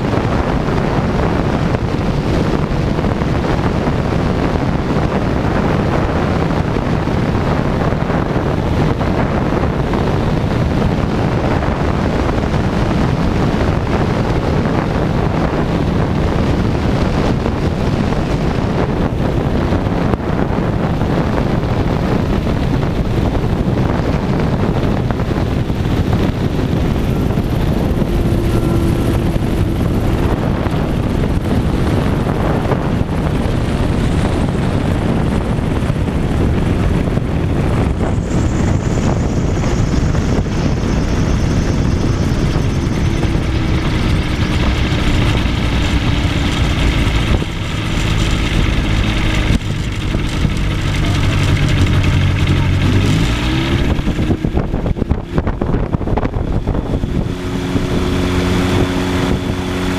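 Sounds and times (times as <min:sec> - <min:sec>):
light aircraft engine: 0:00.0 - 0:59.9
wind buffeting microphone: 0:00.0 - 0:59.9.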